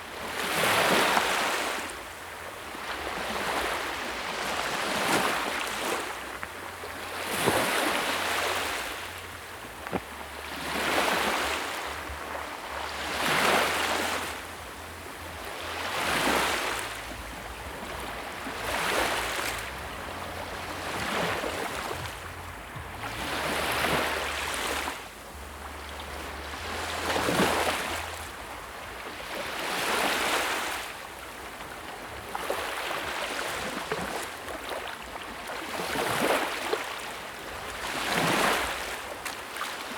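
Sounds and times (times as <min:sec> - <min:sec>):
sea waves surging: 0:00.3 - 0:39.9.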